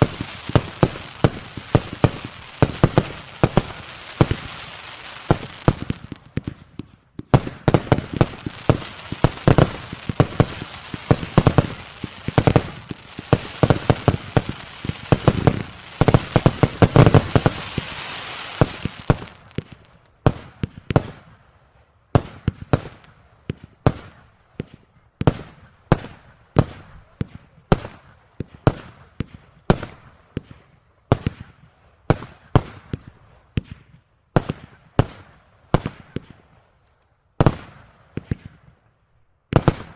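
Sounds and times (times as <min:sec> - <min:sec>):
fireworks crackling and banging: 0:00.0 - 0:21.4, 0:22.2 - 0:36.5, 0:37.4 - 0:38.7, 0:39.5 - 0:39.9.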